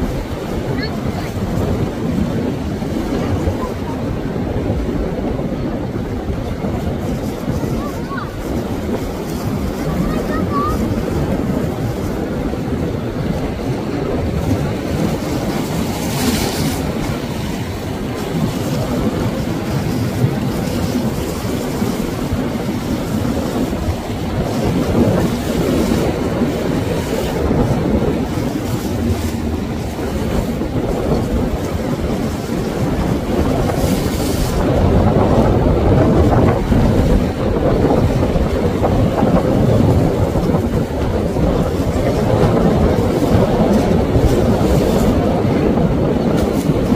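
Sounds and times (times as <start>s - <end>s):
surf washing against rocks: 0.0s - 46.9s
wind buffeting microphone: 0.0s - 46.9s.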